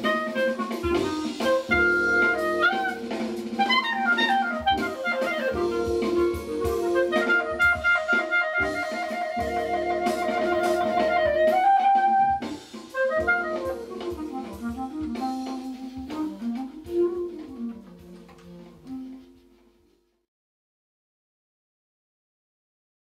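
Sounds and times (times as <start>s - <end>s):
rhythmic accompaniment with low thumps: 0.0s - 20.0s
clarinet melody: 0.0s - 20.1s.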